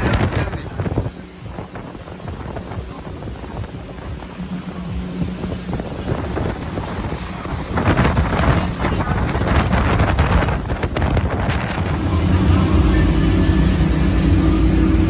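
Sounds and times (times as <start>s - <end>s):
boat motor droning: 0.0s - 15.0s
wind buffeting microphone: 0.0s - 15.0s.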